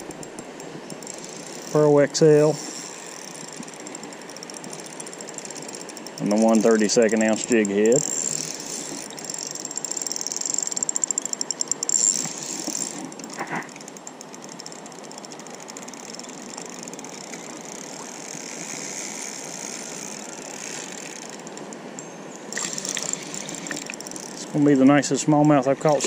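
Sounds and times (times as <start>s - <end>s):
fishing reel clicking rapidly: 0.0s - 24.8s.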